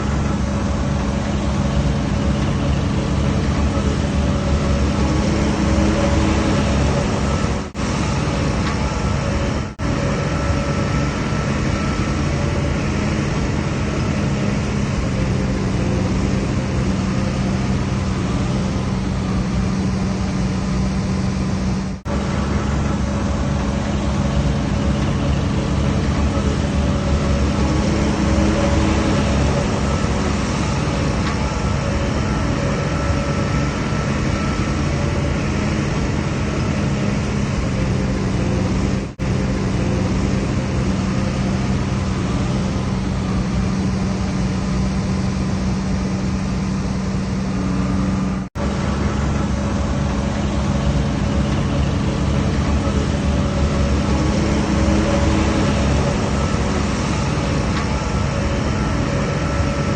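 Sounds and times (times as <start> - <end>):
bulldozer diesel engine humming: 0.0 - 59.9.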